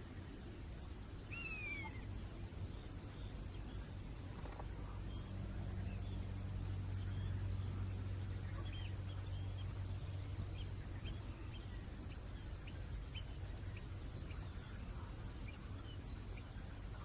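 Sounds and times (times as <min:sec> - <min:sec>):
low steady rumble: 0:00.0 - 0:17.0
small bird chirping: 0:01.3 - 0:17.0.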